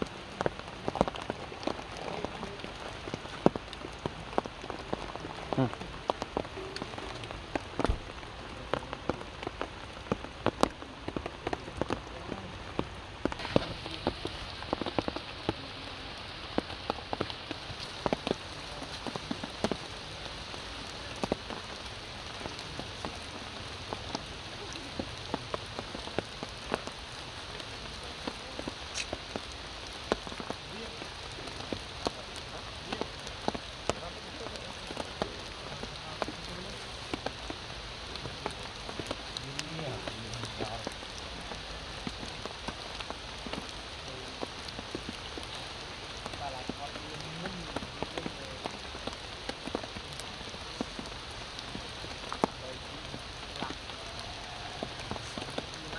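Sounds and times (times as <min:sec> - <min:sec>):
rain on stone and leaves: 0:00.0 - 0:55.9
raindrops ticking: 0:00.0 - 0:55.9.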